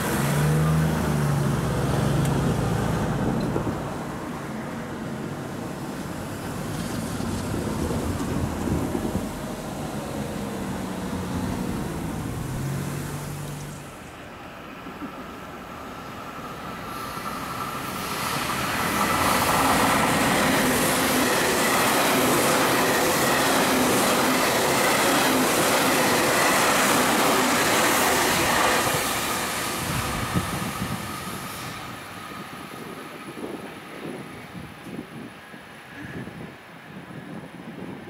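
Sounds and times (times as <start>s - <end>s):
electric train passing: 0.0s - 38.0s.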